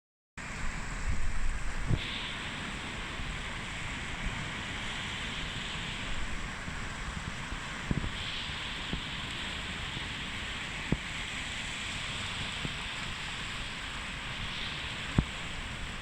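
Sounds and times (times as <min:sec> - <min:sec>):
sea surf washing ashore: 0:00.4 - 0:16.0.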